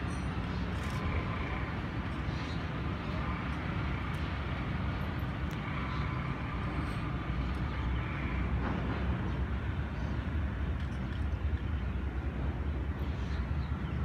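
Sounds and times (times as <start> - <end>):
distant locomotive rumble: 0.0 - 14.0.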